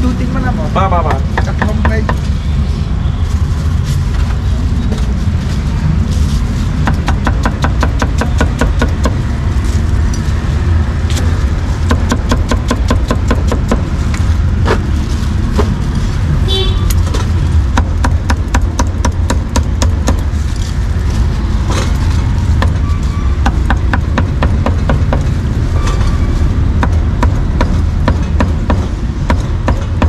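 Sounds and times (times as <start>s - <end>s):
street traffic rumble: 0.0s - 30.0s.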